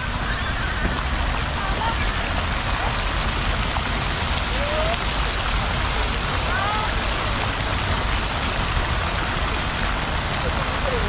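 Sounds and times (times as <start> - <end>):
water splashing onto pool and paving: 0.0 - 11.0.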